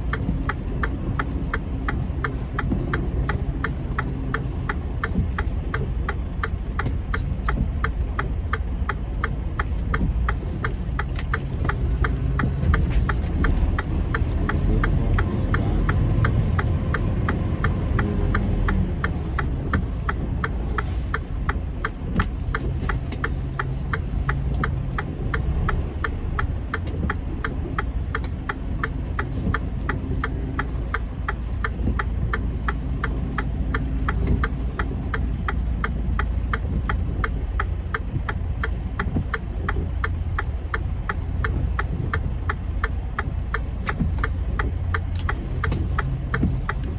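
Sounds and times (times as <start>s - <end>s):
steady ticking: 0.0s - 46.9s
truck engine idling: 0.0s - 46.9s.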